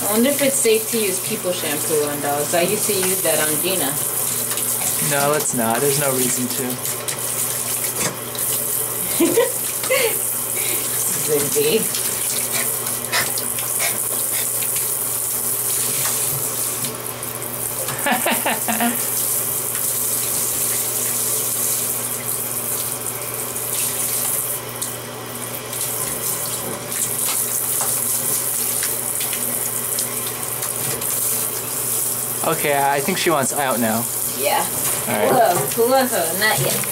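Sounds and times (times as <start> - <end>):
shower spraying water: 0.0 - 36.9.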